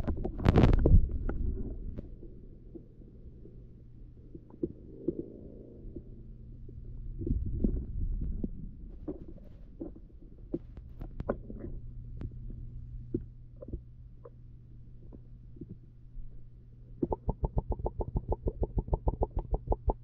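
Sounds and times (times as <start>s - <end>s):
low rumble: 0.0s - 20.0s
underwater low hum: 0.0s - 20.0s.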